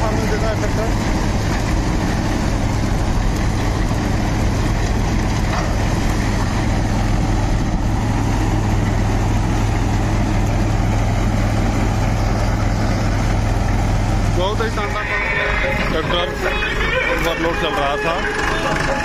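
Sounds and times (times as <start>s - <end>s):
reaper machinery noise: 0.0s - 19.0s
tractor diesel engine running: 0.0s - 19.0s.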